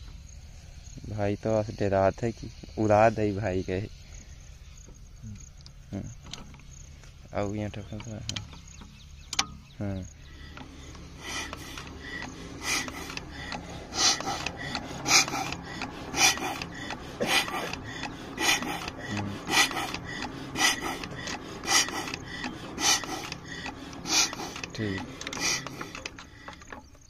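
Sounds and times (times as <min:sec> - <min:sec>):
fuel pump rasping hiss: 0:00.0 - 0:27.0.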